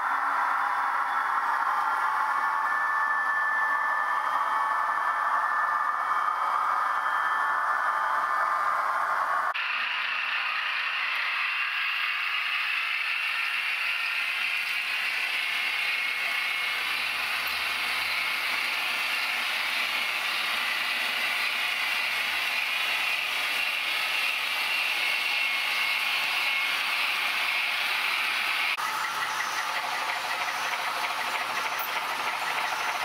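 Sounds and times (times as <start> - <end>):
model trains running on track: 0.0 - 33.0.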